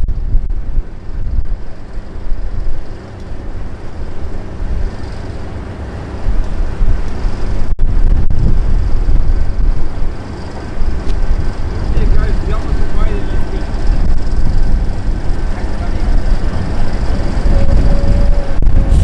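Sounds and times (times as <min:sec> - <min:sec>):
diesel locomotive rumbling: 0:00.0 - 0:19.0
wind buffeting microphone: 0:00.0 - 0:19.0.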